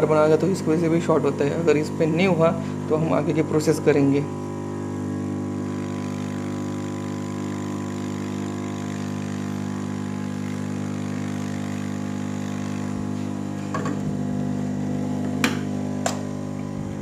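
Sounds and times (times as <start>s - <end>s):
hot air blower running: 0.0s - 17.0s.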